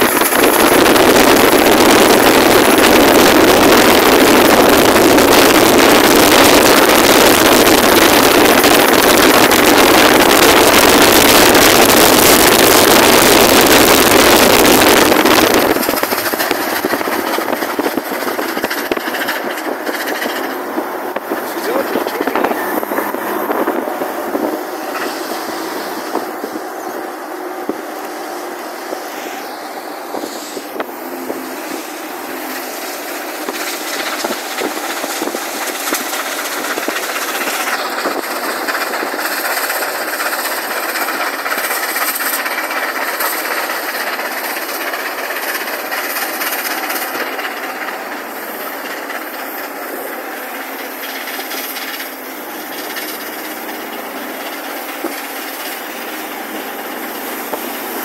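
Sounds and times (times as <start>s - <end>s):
car road and wind noise: 0.0s - 58.0s.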